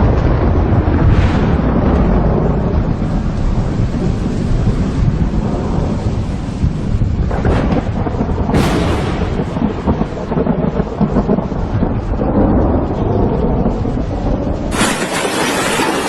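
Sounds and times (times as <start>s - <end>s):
heavy rain: 0.0s - 16.0s
storm wind: 0.0s - 16.0s.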